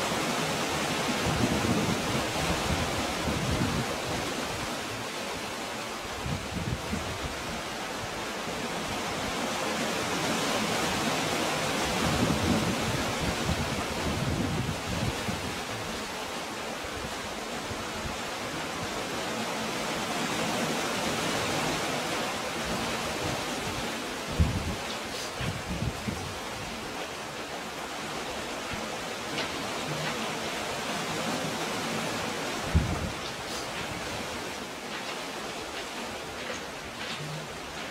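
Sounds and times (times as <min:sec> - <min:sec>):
sea surf washing into cove: 0:00.0 - 0:37.9.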